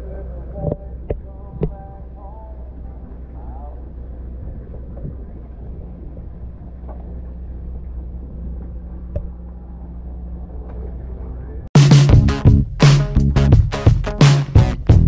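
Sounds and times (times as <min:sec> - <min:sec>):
low rumbling hum: 0:00.0 - 0:14.0.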